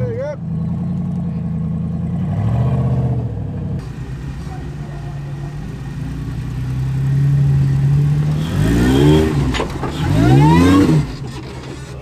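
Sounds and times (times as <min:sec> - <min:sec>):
engine running and revving: 0:00.4 - 0:12.0.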